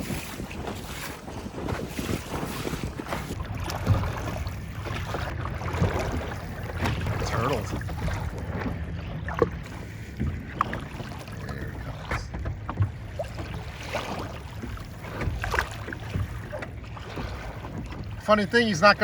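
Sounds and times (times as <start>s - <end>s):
water against boat hull: 0.0s - 19.0s
wind buffeting microphone: 0.0s - 19.0s
light knocks from boat: 3.0s - 18.3s.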